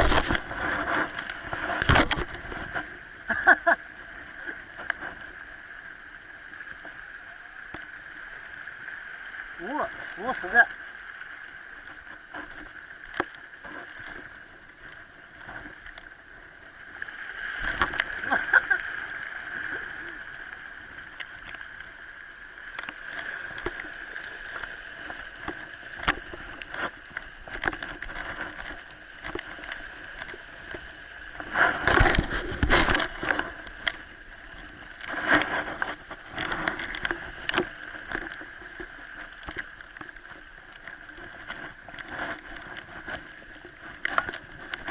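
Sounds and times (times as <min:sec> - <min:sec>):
small clicks and ticks: 0:00.0 - 0:44.9
water sloshing and gurgling: 0:00.0 - 0:44.9.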